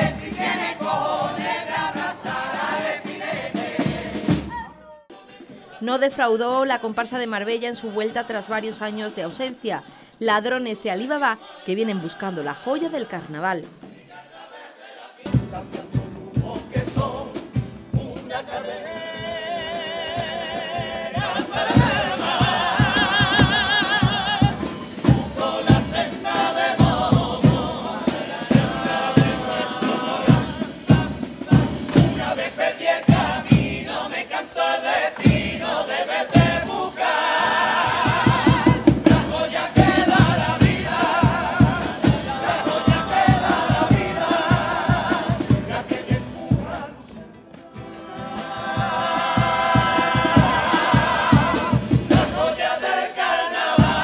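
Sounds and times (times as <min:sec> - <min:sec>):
steady drum beats: 0:00.0 - 0:05.6, 0:15.2 - 0:54.0
men's choir singing in harmony: 0:00.0 - 0:06.1, 0:07.6 - 0:10.0, 0:11.3 - 0:54.0.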